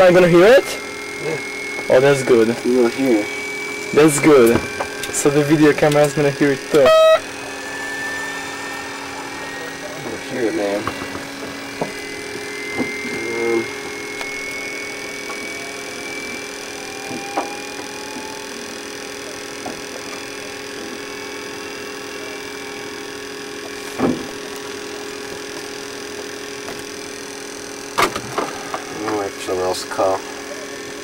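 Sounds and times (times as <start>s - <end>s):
high whine rising in pitch: 0.0s - 27.9s, 28.5s - 31.0s
cockpit electrical hum: 0.0s - 31.0s.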